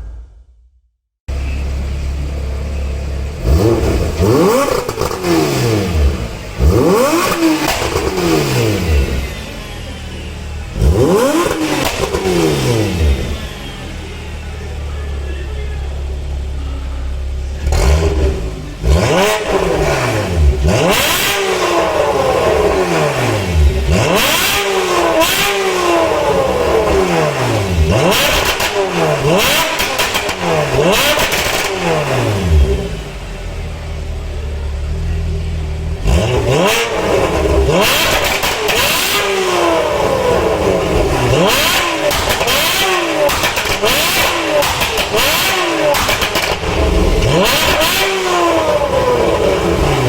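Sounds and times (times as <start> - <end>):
car engine idling: 1.3 - 50.0
car engine revving: 1.3 - 50.0
exhaust cracks: 3.2 - 9.4, 10.7 - 13.8, 16.2 - 33.4, 34.9 - 50.0.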